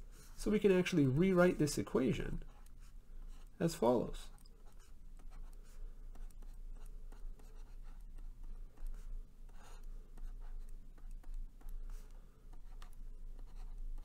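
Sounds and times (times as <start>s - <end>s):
faint low hum: 0.0s - 14.0s
stylus scratching on tablet: 0.1s - 14.0s.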